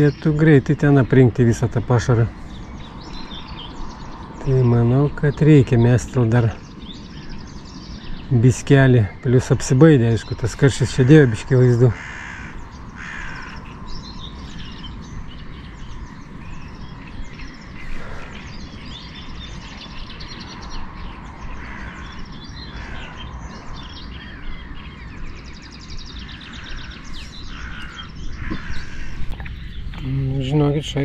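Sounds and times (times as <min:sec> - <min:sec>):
birds chirping: 0:00.0 - 0:31.0
low background rumble: 0:00.0 - 0:31.0.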